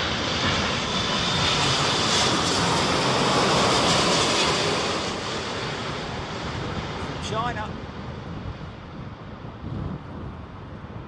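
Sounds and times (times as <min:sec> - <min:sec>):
jet airliner engines rushing: 0:00.0 - 0:11.0.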